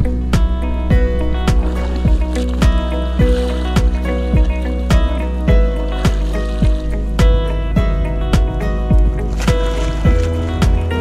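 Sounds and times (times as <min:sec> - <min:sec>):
electronic music with thumping beat: 0:00.0 - 0:11.0.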